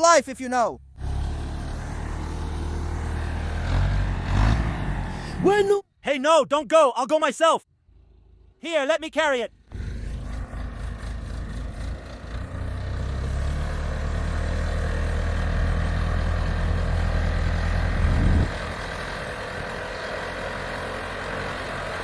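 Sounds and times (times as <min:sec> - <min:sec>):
backhoe engine running: 0:00.8 - 0:05.7, 0:07.7 - 0:08.6, 0:09.5 - 0:22.0.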